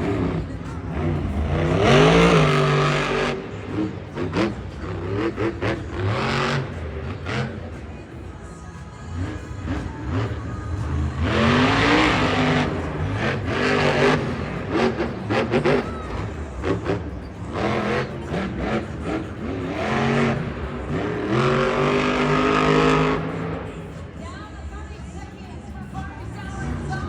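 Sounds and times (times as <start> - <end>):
truck engine revving: 0.0 - 24.8.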